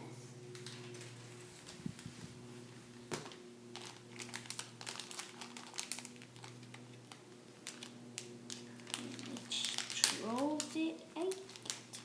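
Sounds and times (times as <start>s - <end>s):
plastic wrapper crinkling: 0.5s - 2.4s, 3.0s - 12.0s.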